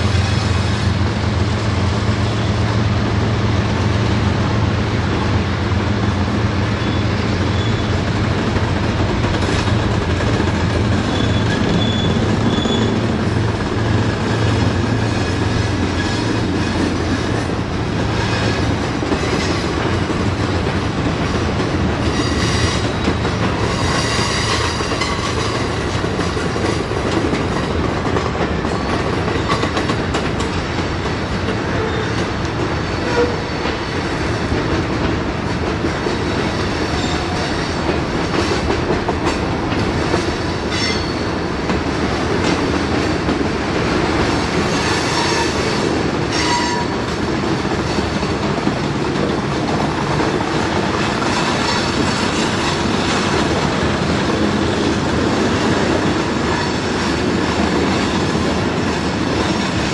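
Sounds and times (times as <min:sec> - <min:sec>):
freight train rumbling past: 0:00.0 - 0:59.9
wheels clacking over rail joints: 0:06.7 - 0:59.9.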